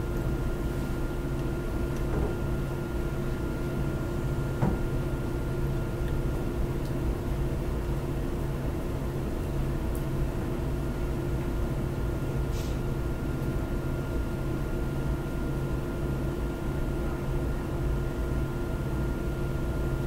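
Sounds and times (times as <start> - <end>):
low hum with constant tones: 0.0 - 20.0.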